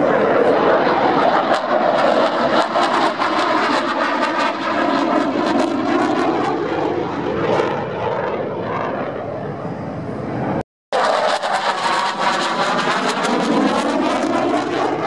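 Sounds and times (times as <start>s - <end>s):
jet engine roar with crackle: 0.0s - 15.0s.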